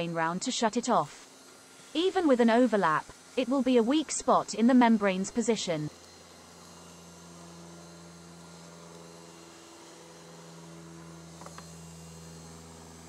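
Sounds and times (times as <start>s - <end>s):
hot air gun humming and hissing: 0.0s - 13.0s.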